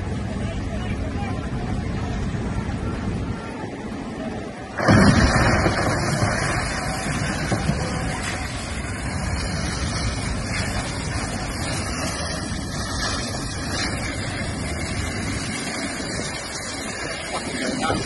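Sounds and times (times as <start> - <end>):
ship engines rumbling: 0.0 - 18.0
rushing noise: 1.0 - 18.0.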